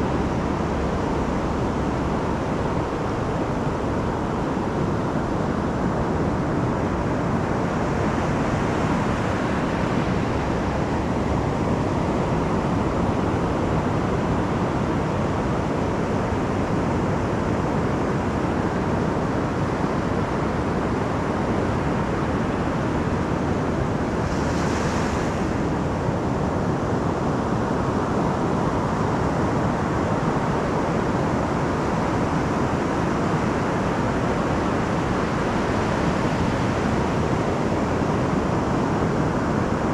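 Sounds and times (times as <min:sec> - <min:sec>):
surf waves breaking on beach: 0:00.0 - 0:39.9.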